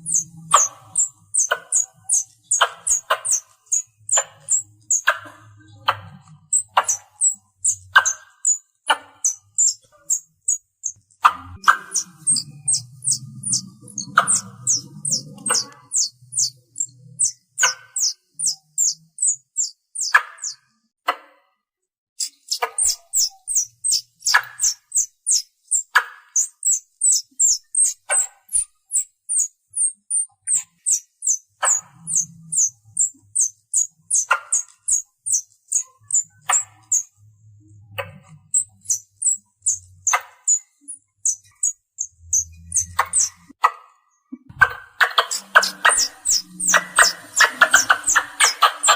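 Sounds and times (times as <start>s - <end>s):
squirrel chirping: 0.0s - 20.6s, 22.2s - 43.6s, 44.5s - 48.9s.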